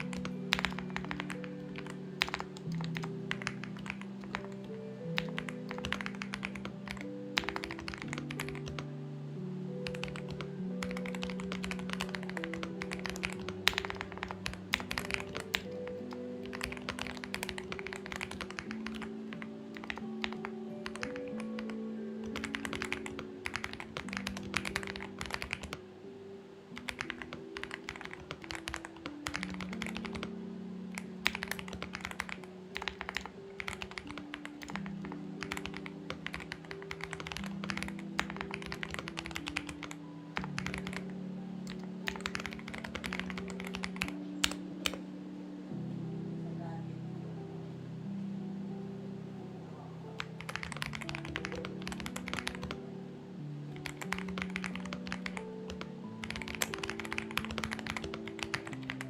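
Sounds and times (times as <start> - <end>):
mechanical keyboard typing: 0.0 - 8.9, 9.8 - 25.8, 26.7 - 45.0, 50.2 - 52.8, 53.7 - 59.0
background music low notes: 0.0 - 59.0.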